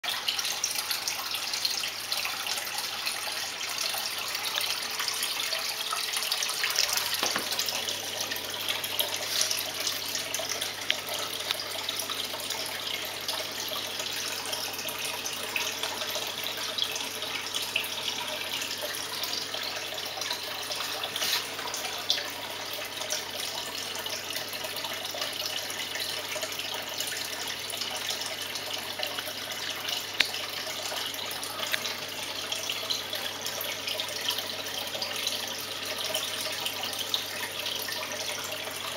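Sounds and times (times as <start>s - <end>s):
water splashing into tank: 0.0s - 35.4s.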